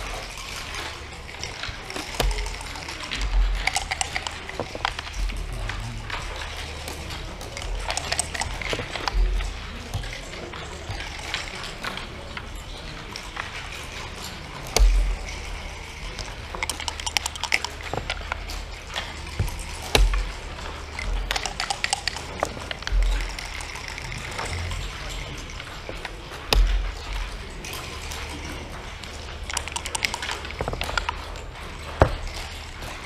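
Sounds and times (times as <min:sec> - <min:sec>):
dice and checkers clicking on wood: 0:00.0 - 0:33.0.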